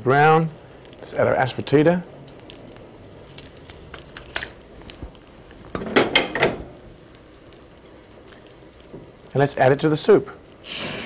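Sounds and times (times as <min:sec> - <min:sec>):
spices crackling in hot ghee: 0:00.0 - 0:11.0.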